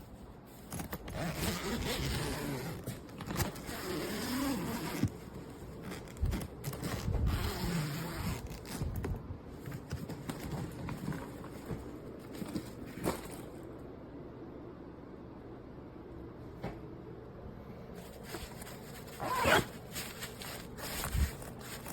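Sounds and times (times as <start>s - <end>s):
suitcase rustling and scraping: 0.0s - 13.7s, 18.0s - 21.9s.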